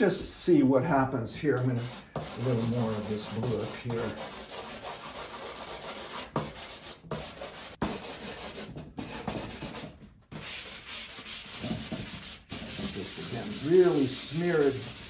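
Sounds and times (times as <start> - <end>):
pastel scratching on paper: 1.8 - 15.0.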